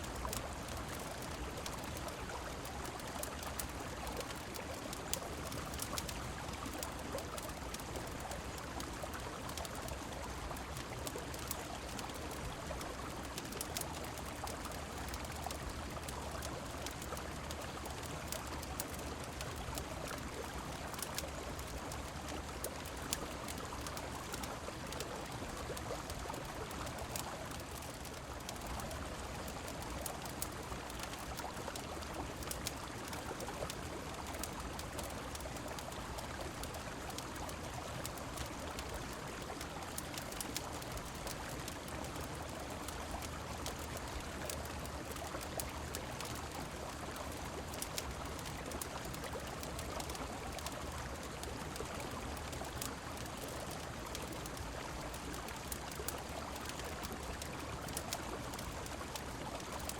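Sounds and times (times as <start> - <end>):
fire crackling clicks: 0.0 - 59.9
rain falling: 0.0 - 59.9
river water flowing: 0.0 - 59.9.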